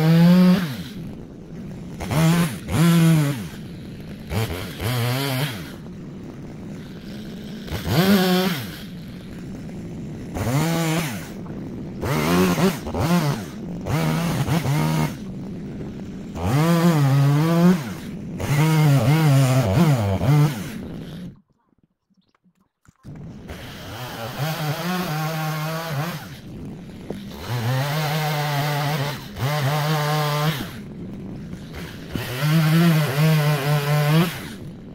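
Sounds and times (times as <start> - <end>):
chainsaw revving and cutting logs: 0.0 - 21.4, 23.1 - 34.9.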